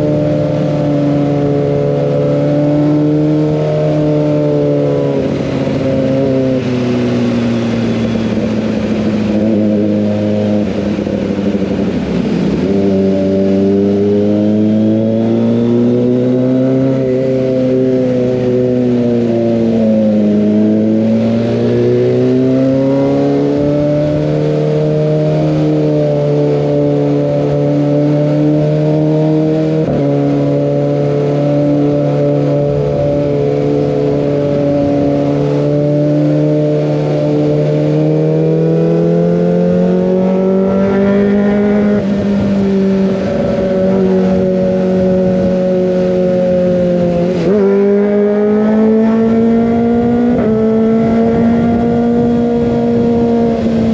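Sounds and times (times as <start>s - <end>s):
motorcycle engine running hard: 0.0s - 53.9s.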